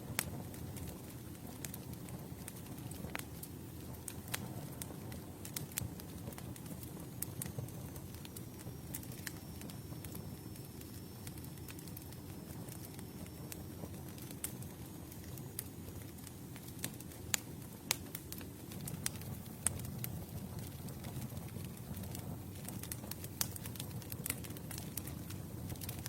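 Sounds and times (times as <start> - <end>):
campfire flames rumbling: 0.0 - 26.0
fire crackles and pops: 0.0 - 26.0.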